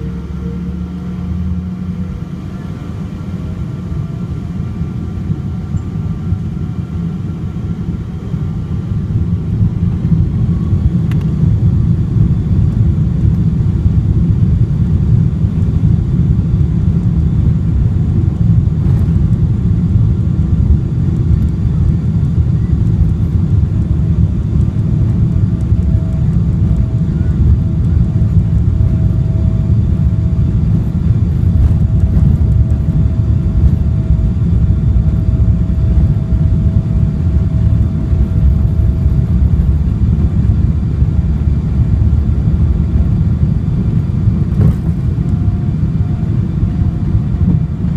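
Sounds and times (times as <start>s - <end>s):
faint steady whine: 0.0s - 47.9s
jet engine cabin rumble: 0.0s - 47.9s.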